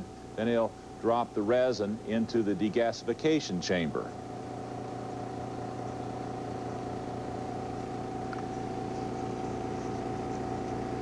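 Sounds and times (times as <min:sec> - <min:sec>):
motor hum with high whine: 0:00.0 - 0:11.0.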